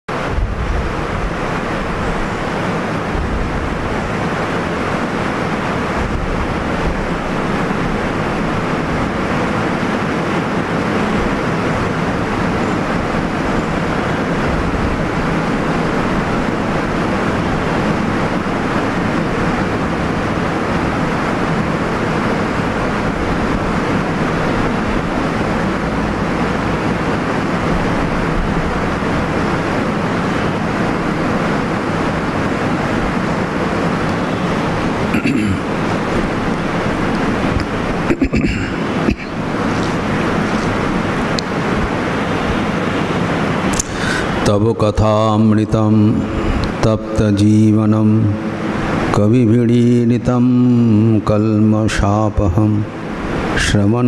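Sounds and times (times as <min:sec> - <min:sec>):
loud rushing hiss: 0:00.1 - 0:54.0.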